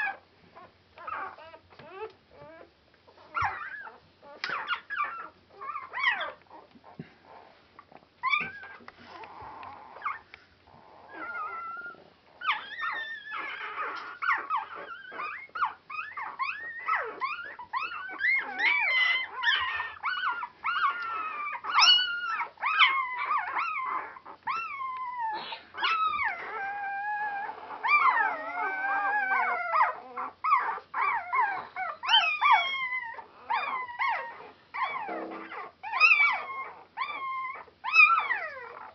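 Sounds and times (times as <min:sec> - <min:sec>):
puppies squealing and whining: 0:00.0 - 0:38.9.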